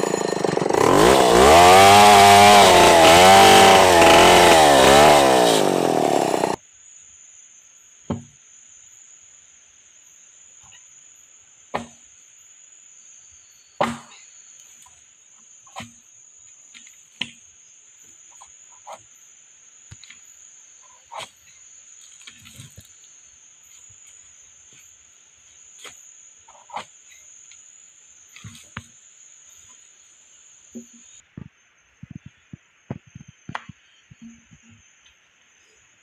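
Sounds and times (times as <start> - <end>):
forest insects droning: 0.0 - 36.0.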